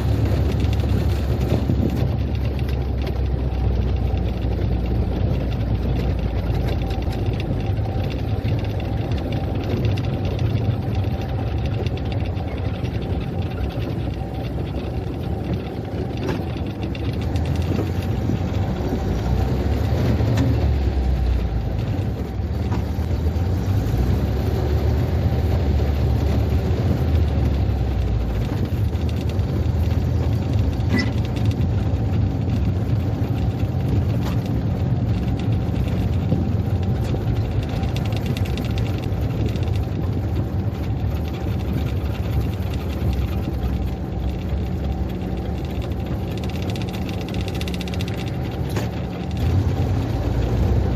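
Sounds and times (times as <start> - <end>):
off-road vehicle engine drone: 0.0 - 50.9.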